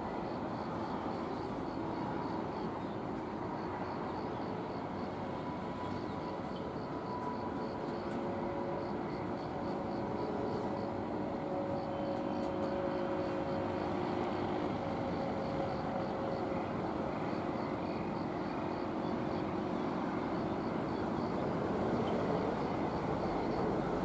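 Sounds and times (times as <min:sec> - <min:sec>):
faint steady tones: 0:00.0 - 0:24.0
freight train wheels rumbling on rails: 0:01.0 - 0:24.0.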